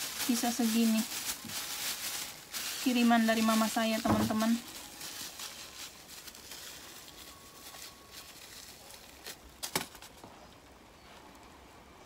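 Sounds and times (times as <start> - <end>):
plastic bag crinkling and clicking: 0.0 - 10.3.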